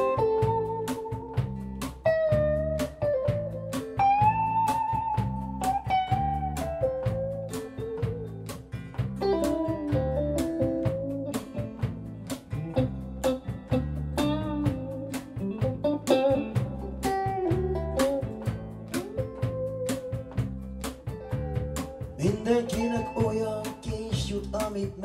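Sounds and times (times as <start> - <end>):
acoustic guitar: 0.0 - 25.0
electric bass: 0.0 - 25.0
small plucked string instrument: 0.0 - 25.0
steady beat: 0.0 - 25.0.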